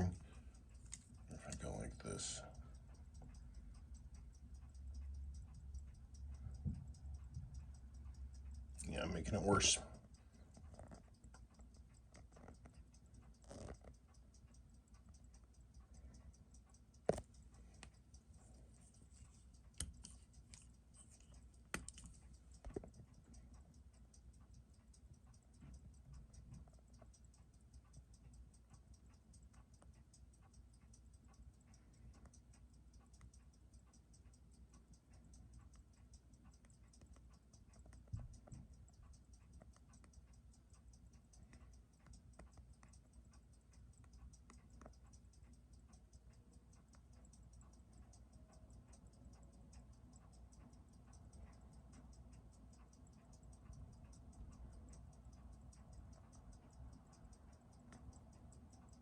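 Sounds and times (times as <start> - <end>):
sharp clicks: 0.0 - 59.0
watch ticking fast: 0.0 - 59.0.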